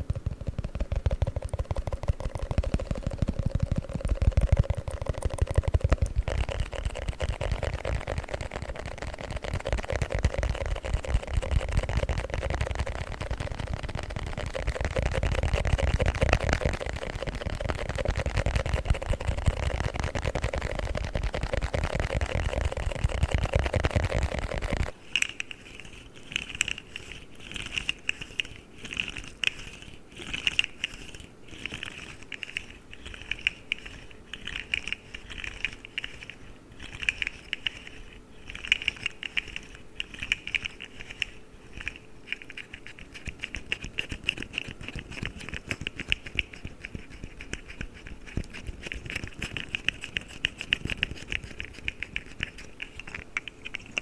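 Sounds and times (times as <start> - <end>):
fidget toy clicking: 0.0 - 54.0.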